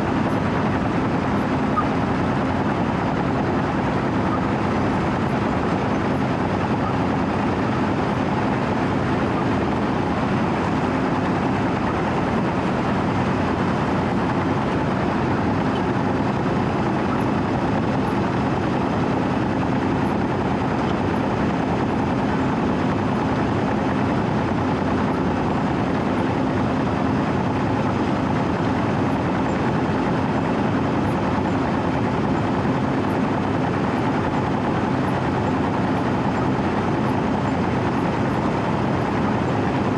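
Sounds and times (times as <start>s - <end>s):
diesel engine hum and rumble: 0.0s - 39.9s.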